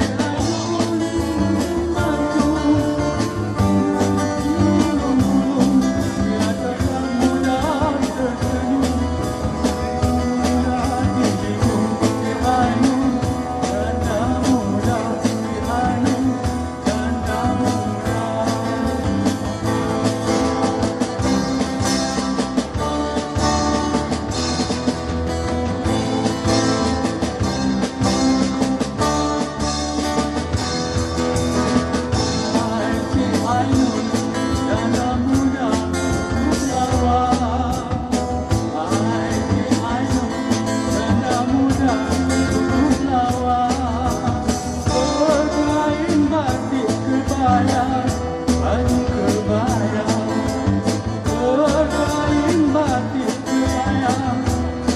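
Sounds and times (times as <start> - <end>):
man singing: 0.0 - 24.1, 25.7 - 30.6, 32.0 - 54.9
drum beat: 0.0 - 54.9
guitars: 0.0 - 54.9.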